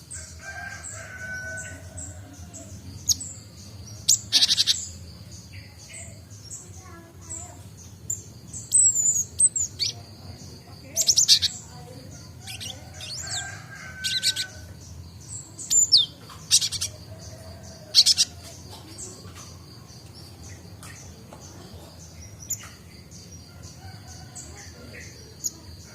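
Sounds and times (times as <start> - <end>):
bird chirping sharp calls: 0.0 - 25.8
high bird twittering: 0.1 - 25.7.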